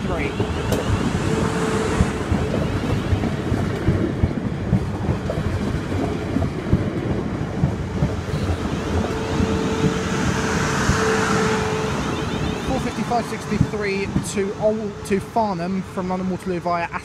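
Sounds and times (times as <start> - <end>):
train wheels clicking over rails: 0.0 - 15.3
electric train passing: 0.0 - 17.0.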